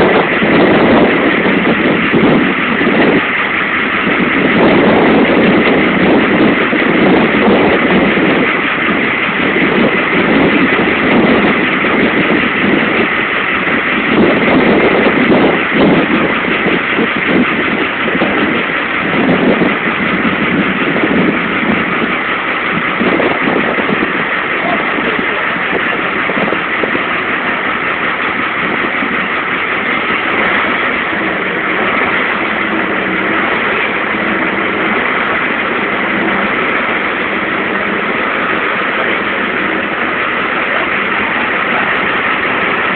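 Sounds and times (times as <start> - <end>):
engine running steadily: 0.0 - 42.9
gusty surges of noise: 0.0 - 42.9.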